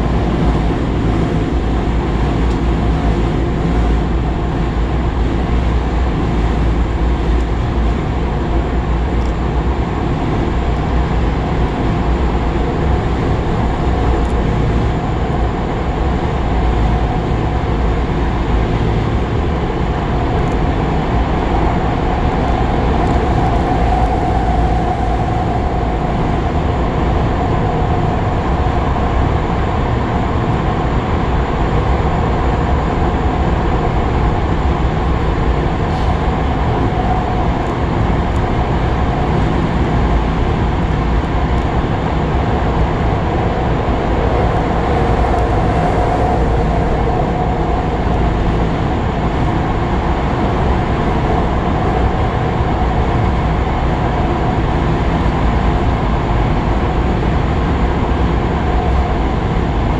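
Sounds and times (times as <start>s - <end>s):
steady hum: 0.0s - 59.9s
train wheels rumbling in tunnel: 0.0s - 59.9s.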